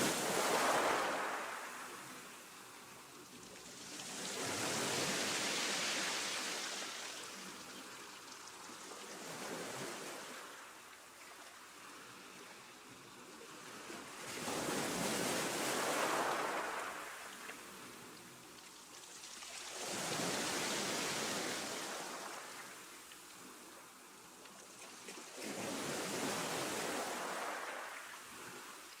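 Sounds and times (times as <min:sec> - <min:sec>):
sea water washing in swells: 0:00.0 - 0:12.3, 0:13.3 - 0:29.0.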